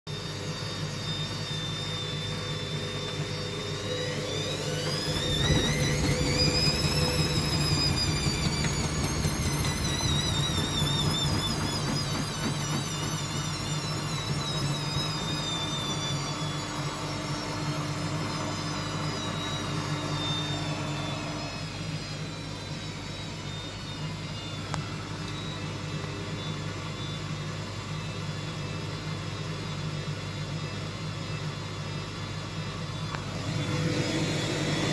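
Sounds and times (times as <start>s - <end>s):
motor whine: 0.1s - 34.9s
washing machine spinning: 0.1s - 34.9s.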